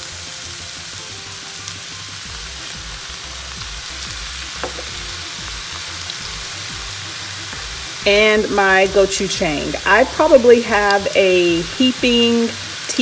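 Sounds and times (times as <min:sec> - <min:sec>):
stir-fry sizzling in a skillet: 0:00.0 - 0:13.0.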